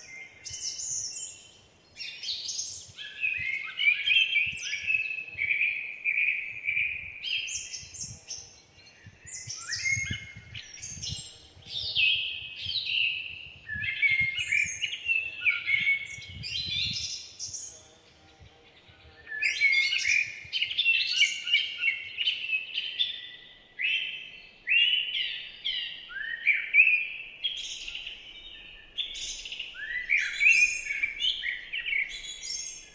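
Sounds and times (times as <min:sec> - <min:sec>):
songbirds chirping and trilling: 0:00.0 - 0:32.9.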